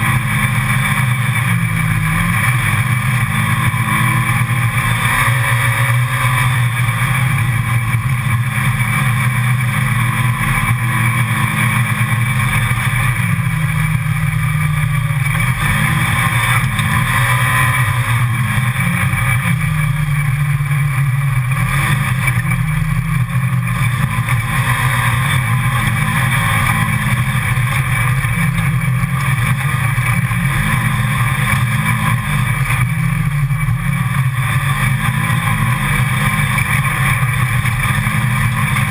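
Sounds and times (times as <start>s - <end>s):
steady rush of noise: 0.0s - 38.9s
vehicle engine running: 0.0s - 38.9s.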